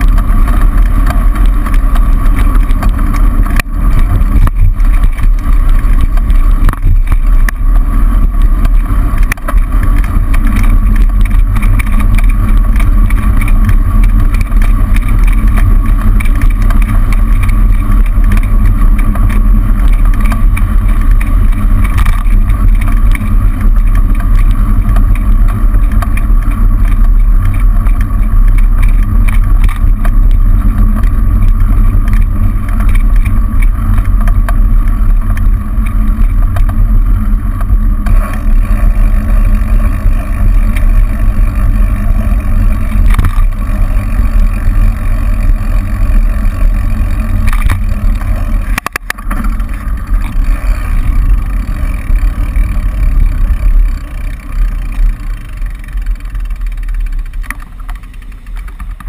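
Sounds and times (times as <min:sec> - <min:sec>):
road rumble: 0:00.0 - 0:59.0.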